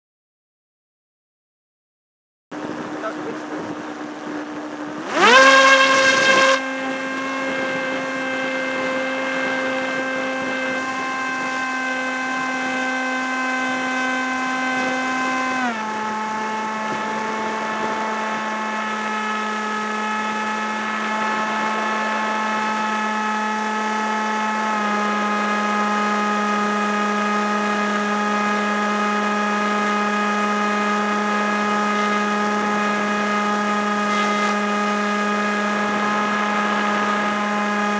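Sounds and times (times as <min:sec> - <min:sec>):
electric motor and propeller whine: 0:02.6 - 0:37.9.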